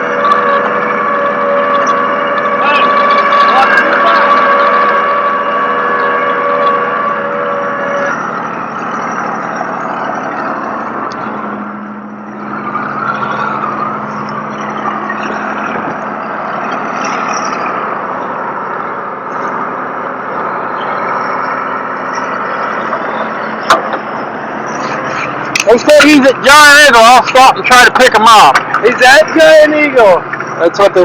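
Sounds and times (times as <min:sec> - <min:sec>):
continuous rushing noise: 0:00.0 - 0:31.0
truck engine humming: 0:00.0 - 0:31.0.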